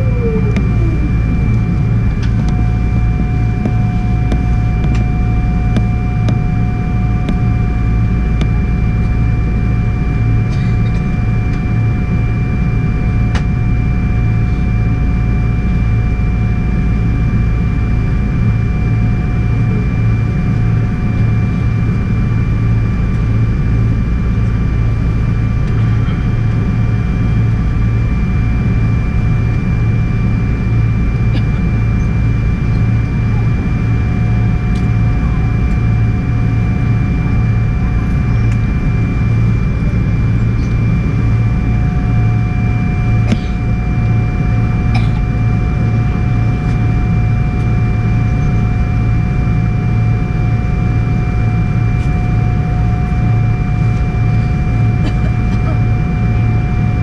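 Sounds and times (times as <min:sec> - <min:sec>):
high engine whine: 0:00.0 - 0:57.0
jet engines idling rumble: 0:00.0 - 0:57.0.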